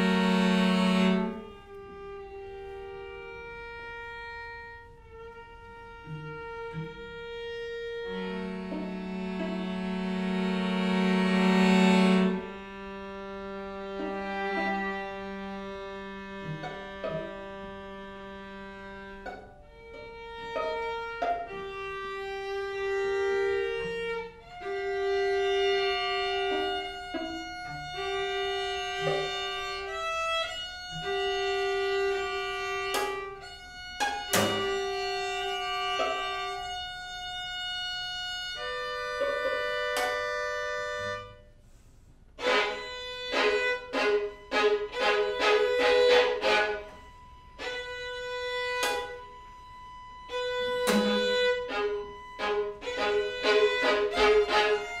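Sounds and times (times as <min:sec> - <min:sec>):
string quartet playing: 0:00.0 - 0:55.0.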